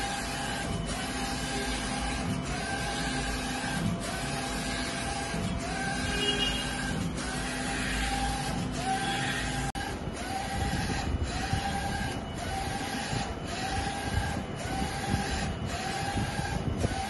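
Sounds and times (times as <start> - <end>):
constant mechanical hum: 0.0 - 17.0
printer carriage motor whining: 0.0 - 17.0.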